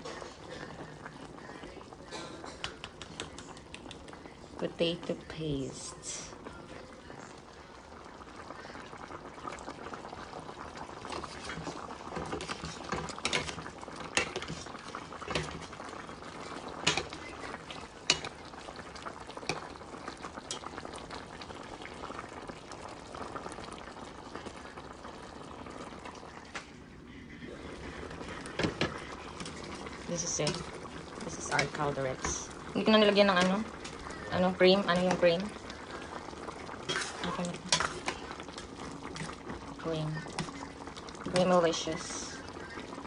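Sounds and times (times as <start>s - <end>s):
stew bubbling in a pot: 0.0s - 43.0s.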